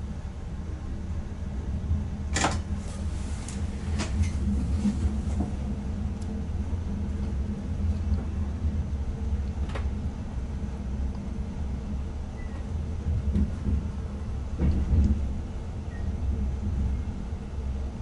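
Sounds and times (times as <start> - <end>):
train cab running rumble: 0.0 - 18.0.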